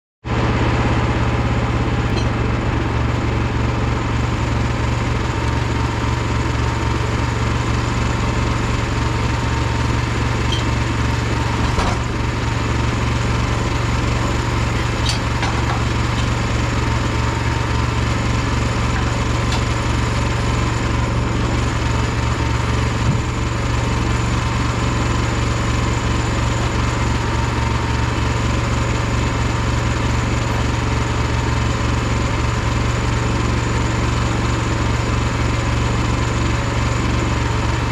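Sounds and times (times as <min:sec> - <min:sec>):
small engine running: 0:00.4 - 0:37.9.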